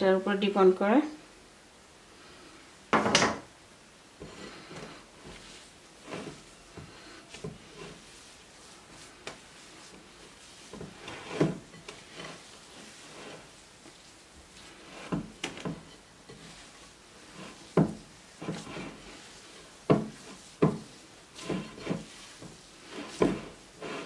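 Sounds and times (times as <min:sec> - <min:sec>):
hands kneading dough squishing: 0:04.2 - 0:24.0.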